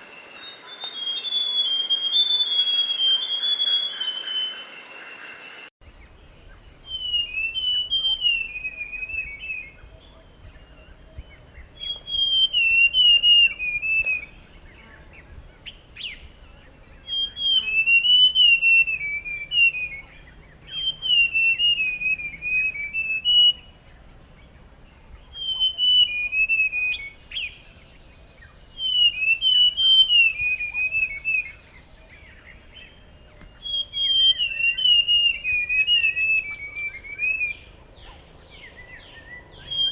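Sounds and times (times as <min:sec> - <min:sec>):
bird singing whistled notes: 0:00.0 - 0:05.7, 0:06.4 - 0:10.0, 0:10.6 - 0:14.4, 0:17.0 - 0:23.8, 0:25.2 - 0:28.0, 0:28.7 - 0:39.9.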